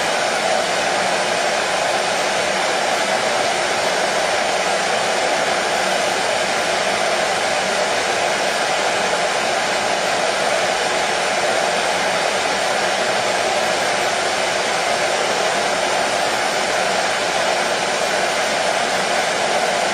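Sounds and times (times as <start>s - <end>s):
hair dryer whooshing: 0.0s - 19.9s.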